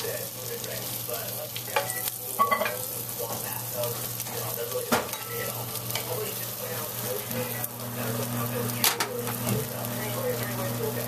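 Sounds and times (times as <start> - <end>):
bread sizzling in an oiled pan: 0.0 - 11.0.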